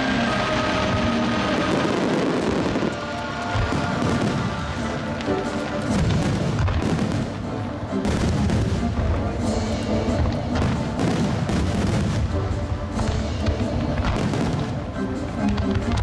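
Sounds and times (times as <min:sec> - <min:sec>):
fireworks booming: 0:00.0 - 0:16.0
music: 0:00.0 - 0:16.0.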